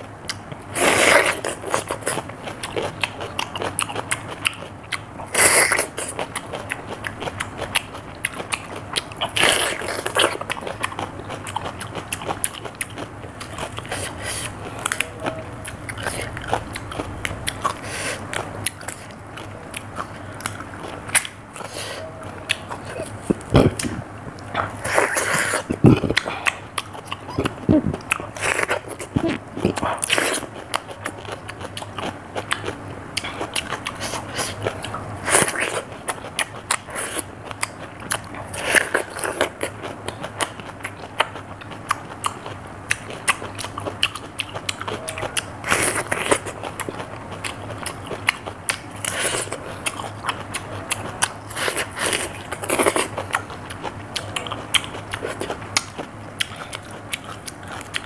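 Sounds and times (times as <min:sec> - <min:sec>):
crunchy cucumber chewing: 0:00.0 - 0:58.0.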